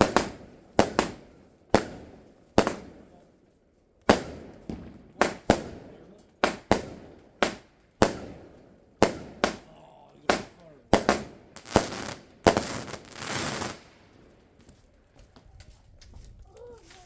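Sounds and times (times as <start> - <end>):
fireworks banging: 0.0 - 3.4, 4.0 - 15.4.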